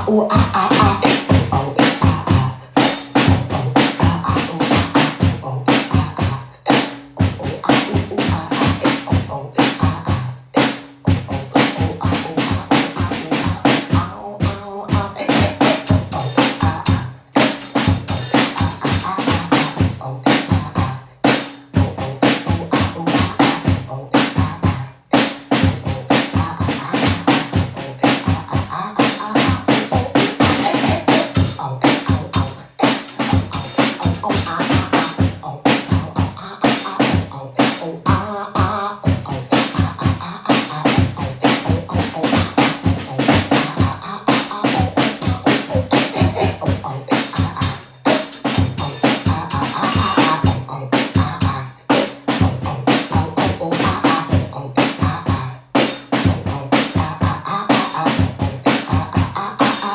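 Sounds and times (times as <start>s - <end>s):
beatboxing: 0.0s - 59.9s.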